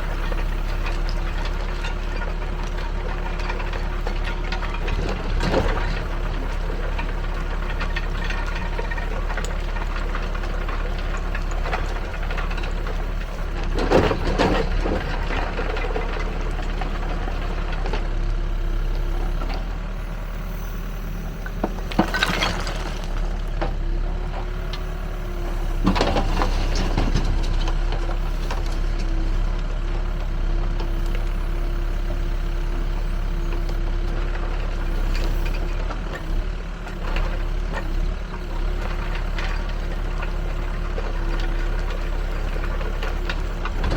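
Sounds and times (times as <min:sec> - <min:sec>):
bucket working soil and rubble: 0:00.0 - 0:31.4, 0:37.0 - 0:43.9
diesel engine running: 0:00.0 - 0:43.9.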